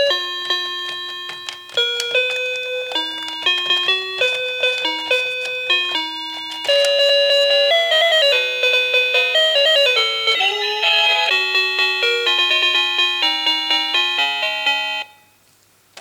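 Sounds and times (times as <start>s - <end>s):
toy telephone beeping melody: 0.0s - 15.1s.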